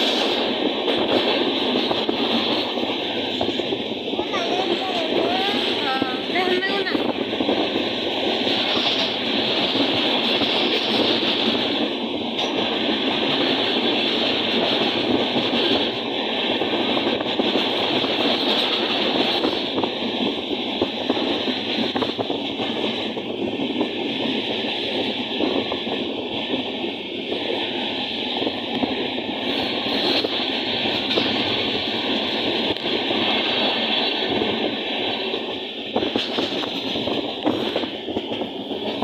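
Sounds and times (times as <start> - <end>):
train wheel-on-rail rush: 0.0 - 39.0.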